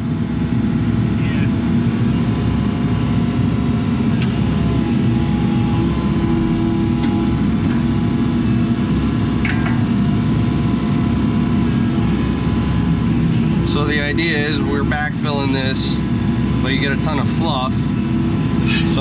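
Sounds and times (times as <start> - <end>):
hydraulic whine: 1.4 - 19.0
diesel engine under load: 1.6 - 19.0.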